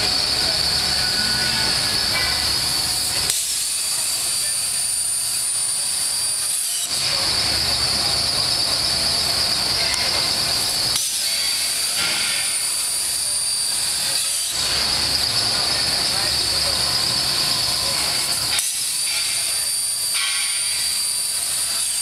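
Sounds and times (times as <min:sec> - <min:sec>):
plasma torch hissing: 0:00.0 - 0:22.0.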